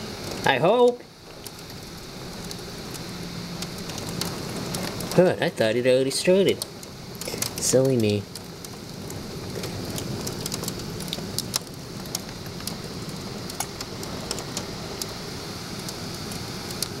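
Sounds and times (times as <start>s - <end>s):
heavy rain pouring: 0.0s - 17.0s
sharp ticks of raindrops: 0.0s - 17.0s.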